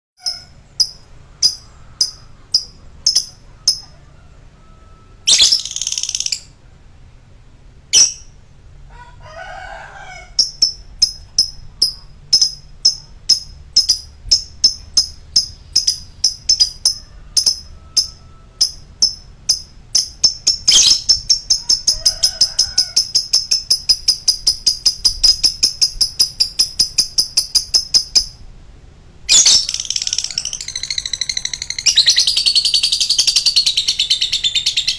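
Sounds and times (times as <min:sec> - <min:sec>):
lovebird chirping: 0:00.2 - 0:06.6, 0:07.9 - 0:08.4, 0:10.3 - 0:28.4, 0:29.3 - 0:34.9.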